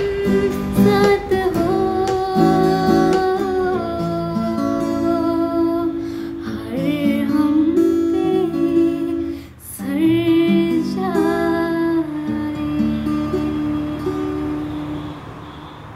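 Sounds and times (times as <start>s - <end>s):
girl singing: 0.0s - 14.7s
acoustic guitar: 0.0s - 15.9s.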